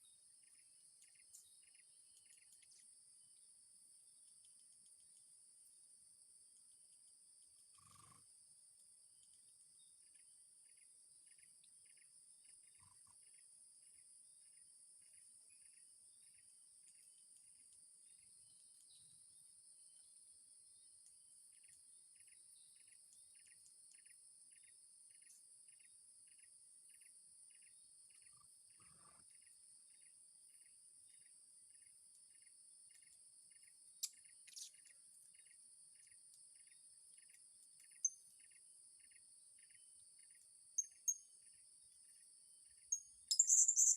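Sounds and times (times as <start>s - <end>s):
insects droning: 0.0s - 43.9s.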